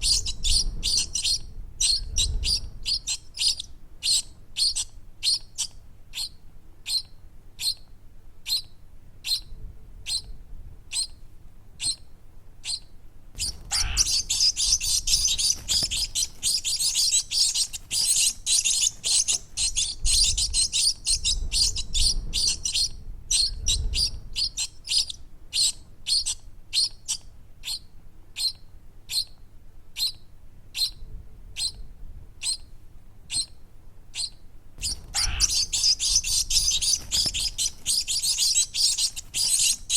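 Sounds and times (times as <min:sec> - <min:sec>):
baby birds chirping: 0:00.0 - 0:07.8, 0:08.4 - 0:10.3, 0:10.9 - 0:11.2, 0:11.8 - 0:12.0, 0:12.6 - 0:27.8, 0:28.4 - 0:29.3, 0:30.0 - 0:30.2, 0:30.8 - 0:31.0, 0:31.6 - 0:31.8, 0:32.4 - 0:32.7, 0:33.3 - 0:33.5, 0:34.2 - 0:39.9.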